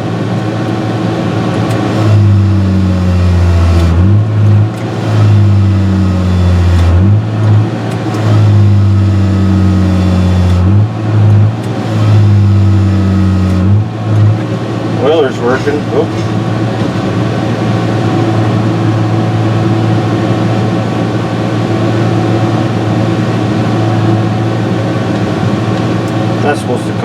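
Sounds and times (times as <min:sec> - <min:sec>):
diesel engine running loud: 0:00.0 - 0:27.0.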